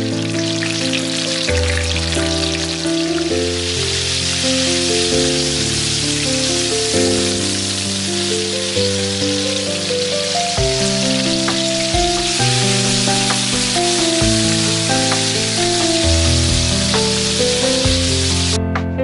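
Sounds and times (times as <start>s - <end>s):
chicken deep-frying in hot oil: 0.0s - 18.6s
background music of held notes: 0.0s - 19.0s.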